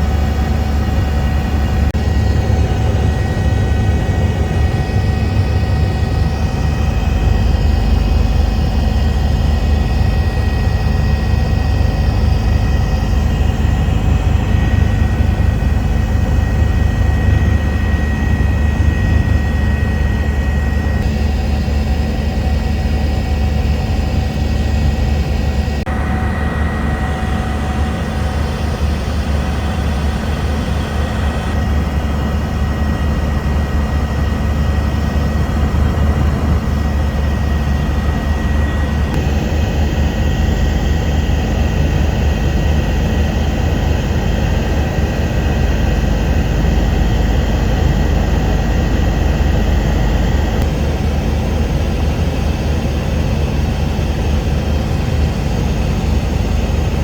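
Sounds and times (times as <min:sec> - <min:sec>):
helicopter rotor drone: 0:00.0 - 0:57.0
high whine: 0:00.0 - 0:57.0.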